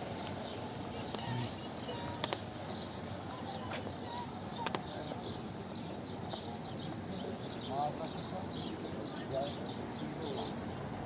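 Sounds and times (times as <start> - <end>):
faint voices: 0.0 - 11.0
murmur of passers-by: 0.0 - 11.0.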